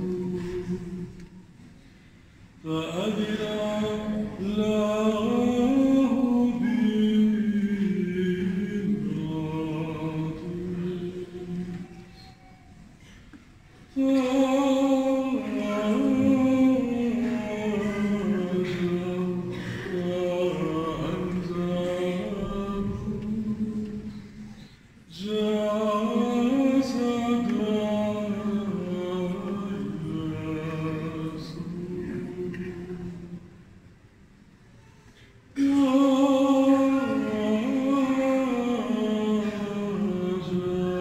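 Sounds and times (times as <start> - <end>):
voices singing a chant: 0.0 - 1.5, 2.6 - 12.9, 13.9 - 33.6, 35.6 - 41.0.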